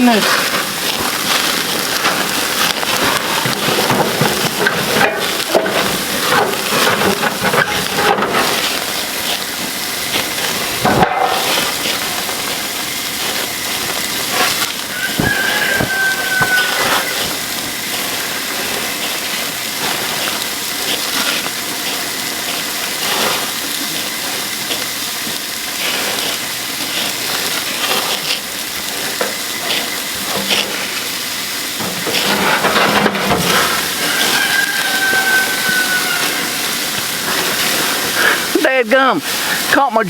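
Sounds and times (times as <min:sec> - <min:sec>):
grease flaring up: 0:00.0 - 0:40.0
meat sizzling on a grill: 0:00.0 - 0:40.0.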